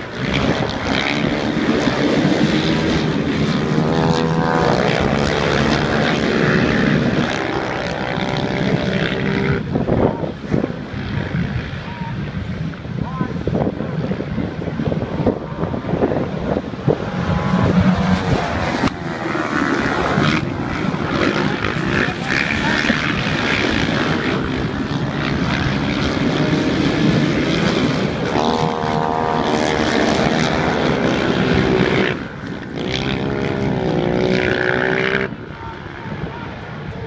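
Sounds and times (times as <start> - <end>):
quad bike engines revving: 0.0 - 37.0.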